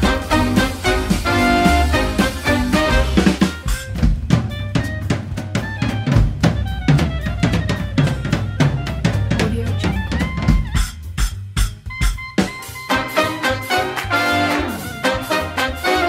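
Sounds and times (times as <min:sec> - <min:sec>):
background music with drum beat: 0:00.0 - 0:16.0.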